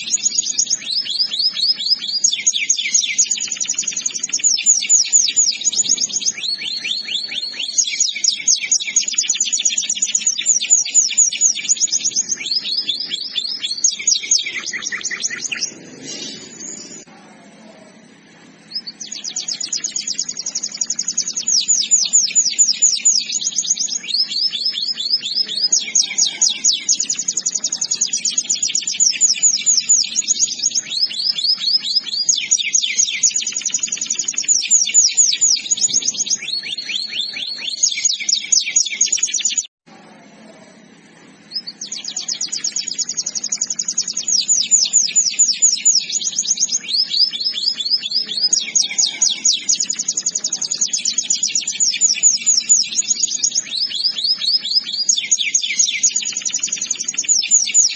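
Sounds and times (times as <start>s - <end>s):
canary singing trilled phrases: 0.0s - 39.8s, 40.9s - 57.9s.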